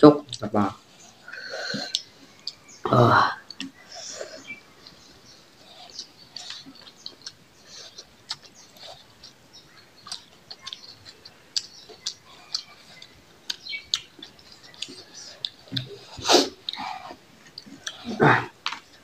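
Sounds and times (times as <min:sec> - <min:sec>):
chewing and lip smacking: 0:01.3 - 0:02.8, 0:03.4 - 0:19.0.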